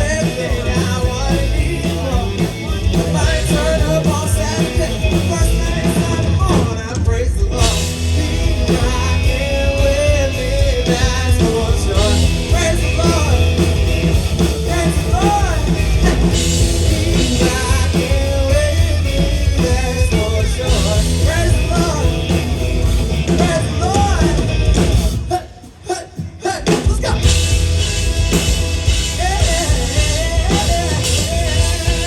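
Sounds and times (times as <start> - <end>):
heavy bass beat: 0.0 - 6.7, 7.6 - 25.3, 26.9 - 32.0
amplified live band music: 0.0 - 32.0.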